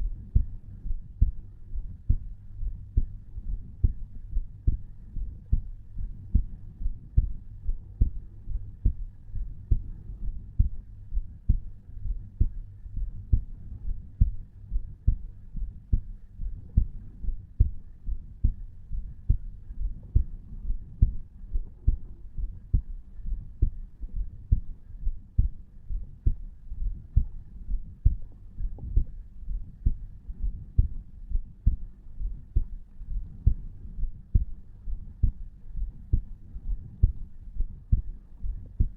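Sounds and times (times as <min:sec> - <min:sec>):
heartbeat thumps: 0:00.0 - 0:38.9
low hum: 0:00.0 - 0:38.9.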